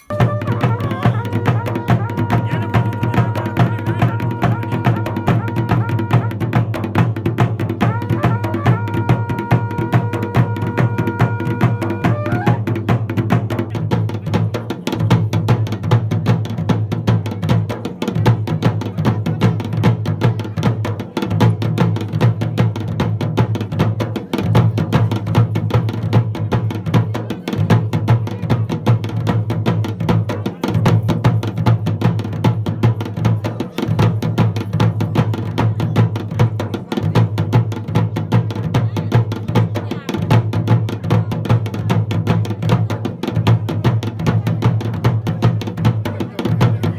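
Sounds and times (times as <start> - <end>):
fast drumming: 0.0 - 46.9.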